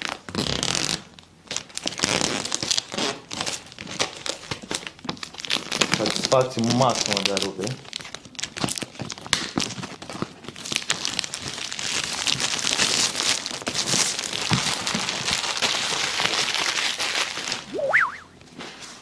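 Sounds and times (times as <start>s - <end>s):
plastic wrapping crinkling: 0.0s - 17.7s.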